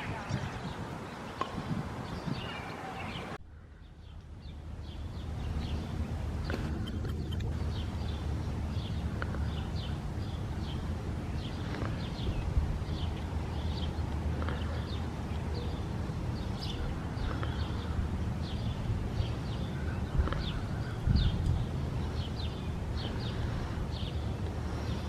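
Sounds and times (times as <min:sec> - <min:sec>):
small birds chirping: 0:00.0 - 0:25.0
steady low rumble: 0:03.4 - 0:25.0.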